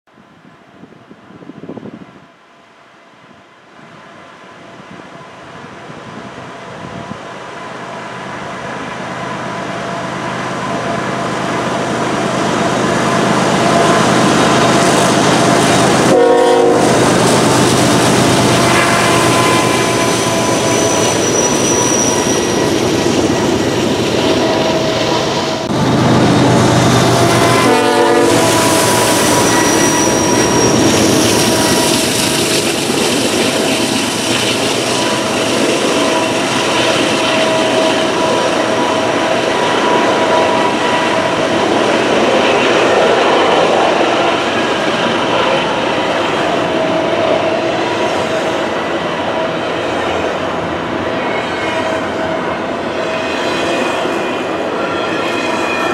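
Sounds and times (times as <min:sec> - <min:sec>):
train wheel and rail clatter: 0:03.8 - 0:55.9
diesel locomotives running hard: 0:04.8 - 0:55.9.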